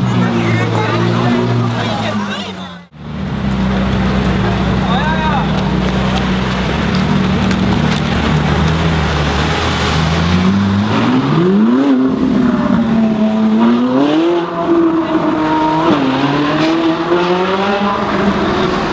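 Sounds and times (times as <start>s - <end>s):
sports car engine accelerating hard: 0.1s - 18.9s.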